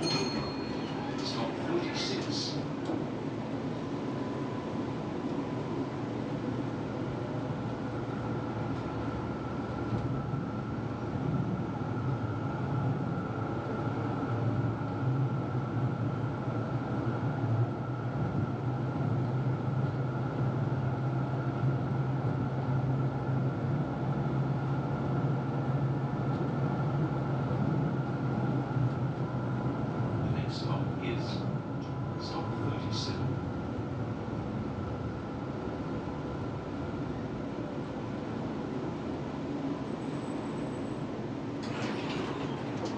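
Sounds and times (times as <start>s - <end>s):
tram rolling along tracks: 0.0s - 42.9s.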